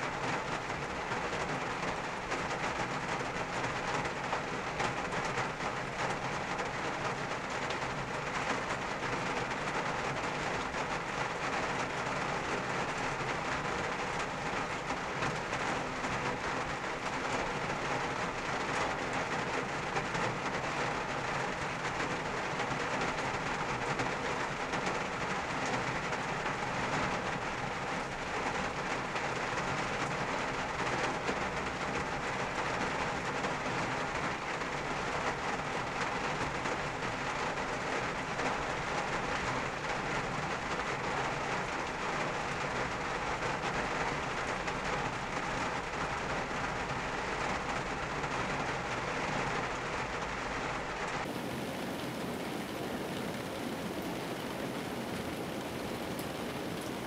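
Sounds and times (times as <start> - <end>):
light hissy rain patter: 0.0 - 57.0
rain drumming on car roof: 0.0 - 57.0.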